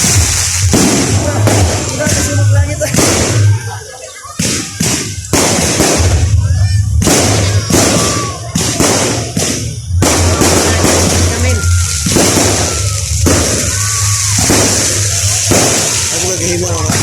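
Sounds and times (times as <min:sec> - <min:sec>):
fireworks bangs: 0:00.0 - 0:17.0
music playing: 0:00.0 - 0:17.0.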